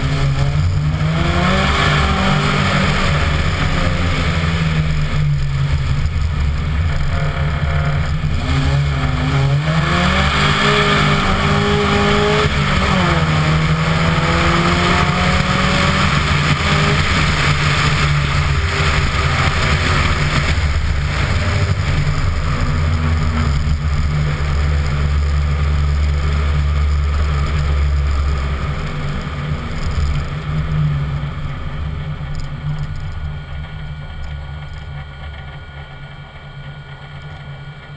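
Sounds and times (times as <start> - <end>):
race car engine revving: 0.0 - 37.8.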